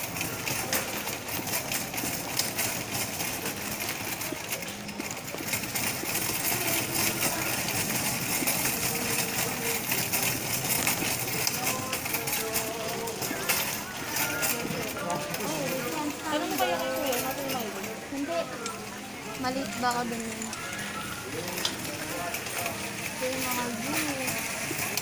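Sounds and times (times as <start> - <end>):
shopping cart rattling: 0.0 - 25.0.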